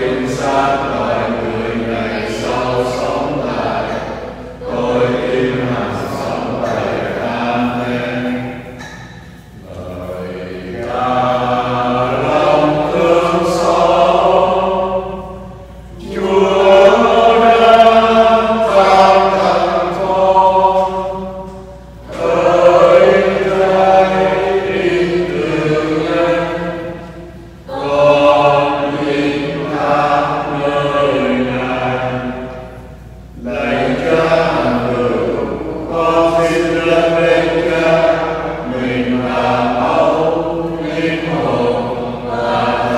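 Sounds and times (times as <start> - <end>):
voices singing sacred chant: 0.0 - 42.9.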